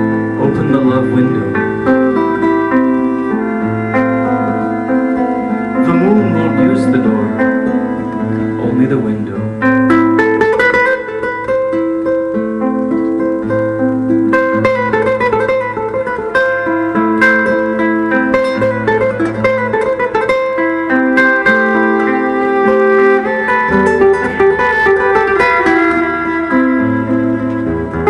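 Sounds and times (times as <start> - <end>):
cello held notes: 0.0 - 11.4, 14.4 - 28.0
plucked acoustic guitar: 0.0 - 28.0.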